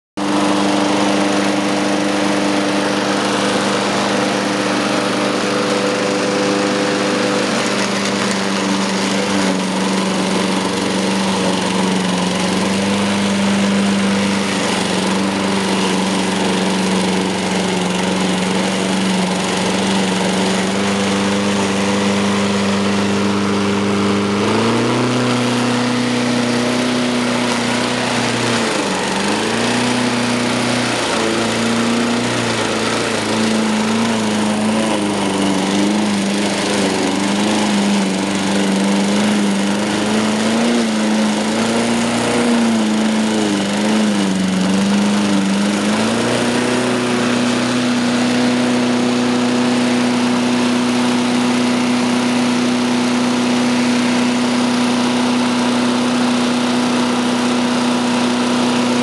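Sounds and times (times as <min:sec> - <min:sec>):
lawn mower engine running: 0:00.2 - 0:59.0.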